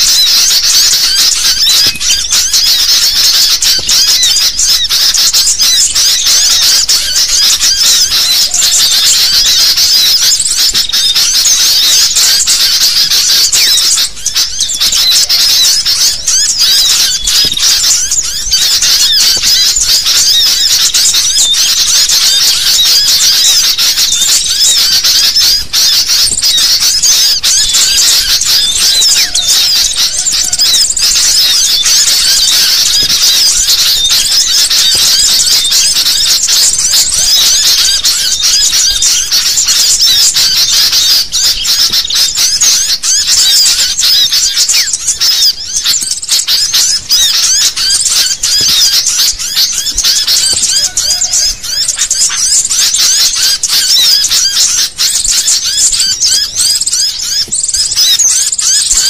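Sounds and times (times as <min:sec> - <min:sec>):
flock of bulbuls chirping: 0:00.0 - 0:59.0.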